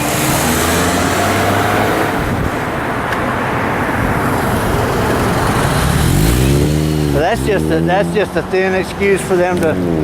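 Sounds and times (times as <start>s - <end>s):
heavy road traffic: 0.0s - 10.0s.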